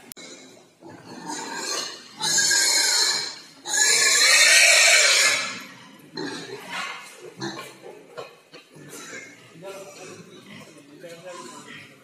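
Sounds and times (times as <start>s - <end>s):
quiet pig noises: 0.0s - 12.0s
pigs squealing: 0.4s - 12.0s.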